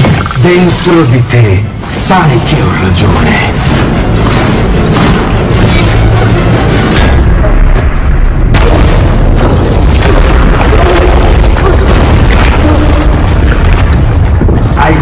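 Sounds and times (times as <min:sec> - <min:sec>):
deep rumbling booms: 0:01.6 - 0:15.0.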